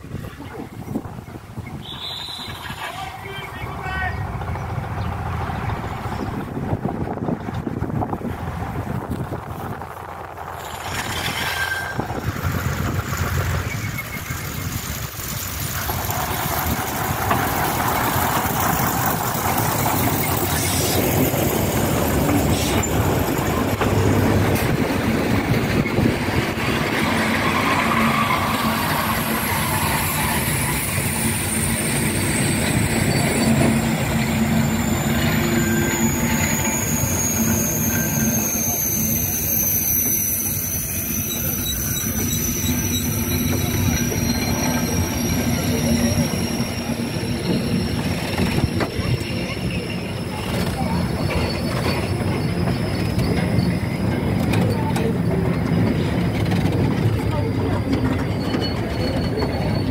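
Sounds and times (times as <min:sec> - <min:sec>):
train rumbling past: 0:00.0 - 0:59.9
high brake squeal: 0:01.6 - 0:03.5, 0:10.6 - 0:16.8, 0:17.5 - 0:23.7, 0:25.7 - 0:59.9.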